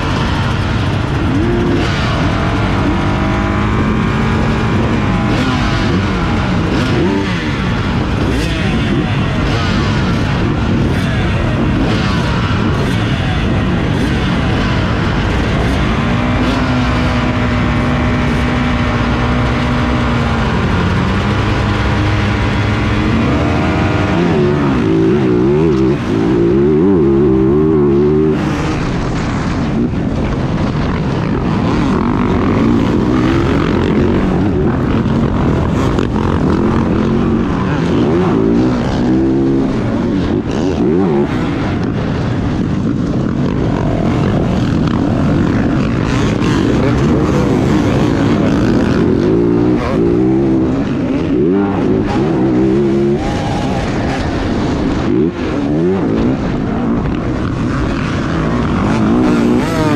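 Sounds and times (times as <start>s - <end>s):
dirt bike engine revving: 0.0s - 59.9s
other dirt bikes running: 0.0s - 59.9s.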